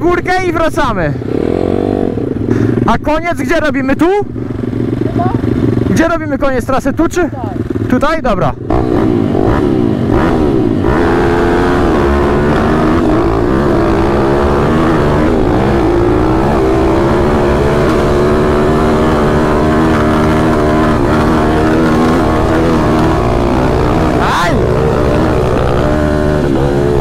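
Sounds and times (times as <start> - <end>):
motorbike engines revving: 0.0 - 27.0.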